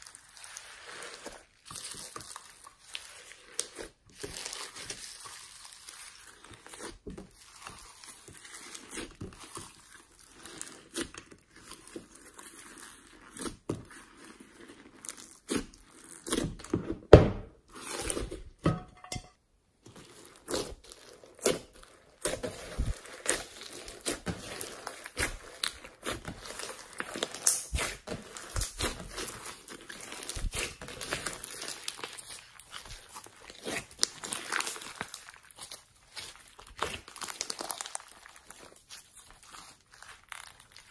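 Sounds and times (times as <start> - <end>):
hands squishing slime: 0.0 - 17.0, 19.9 - 40.9.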